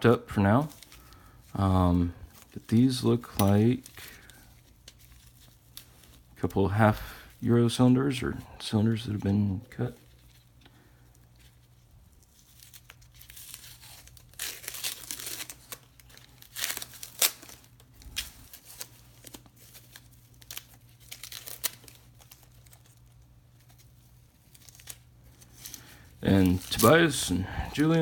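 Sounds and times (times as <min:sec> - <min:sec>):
packing material crinkling and tearing: 0:00.3 - 0:28.0.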